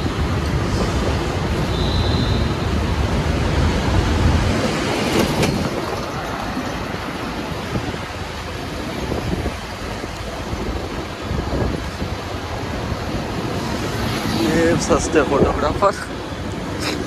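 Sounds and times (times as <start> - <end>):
road and traffic noise: 0.0 - 17.0
wind rushing over microphone: 0.0 - 17.0.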